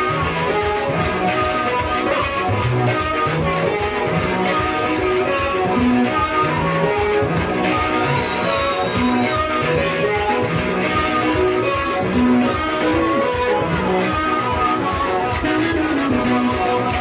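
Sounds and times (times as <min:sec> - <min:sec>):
upbeat gospel dance music: 0:00.0 - 0:17.0.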